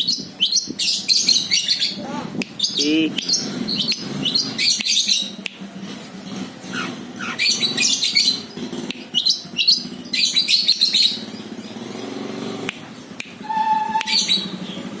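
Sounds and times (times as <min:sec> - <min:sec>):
bird chattering chirps: 0:00.0 - 0:05.6, 0:06.2 - 0:12.2, 0:12.8 - 0:15.0.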